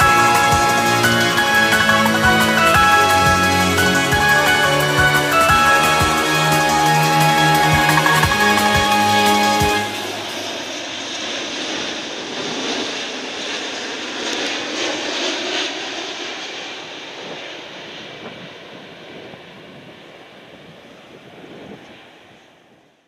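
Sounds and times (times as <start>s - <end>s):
jet airliner engines roaring: 0.0s - 22.8s.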